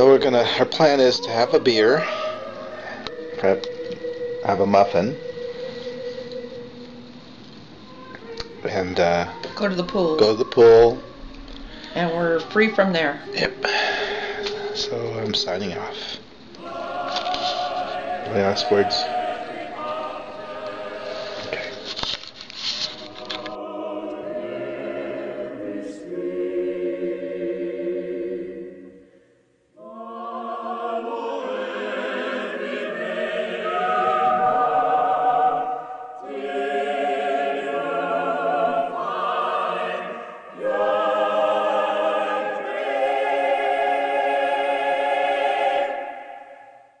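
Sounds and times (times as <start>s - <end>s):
choir singing held chords: 0.0s - 47.0s.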